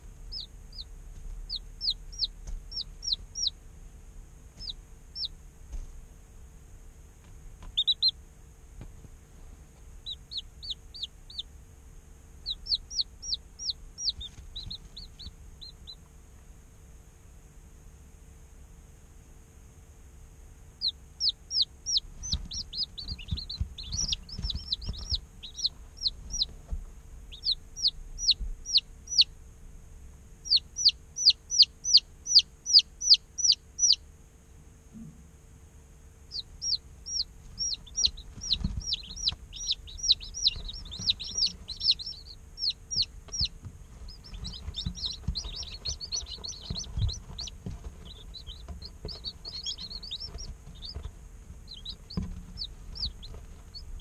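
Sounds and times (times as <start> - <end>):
chicks peeping: 0.0 - 3.6, 4.5 - 5.9, 7.2 - 11.6, 12.3 - 16.5, 20.8 - 29.4, 30.4 - 34.0, 36.3 - 54.0.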